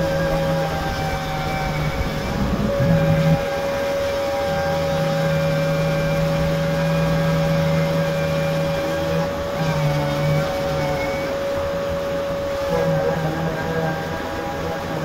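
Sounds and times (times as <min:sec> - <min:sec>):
sander hum: 0:00.0 - 0:15.0
shop vacuum whine: 0:00.0 - 0:15.0.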